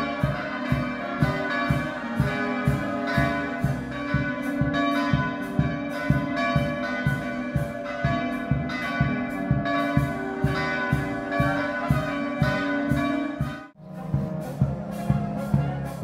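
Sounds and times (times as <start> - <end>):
church bells pealing: 0.0 - 16.0.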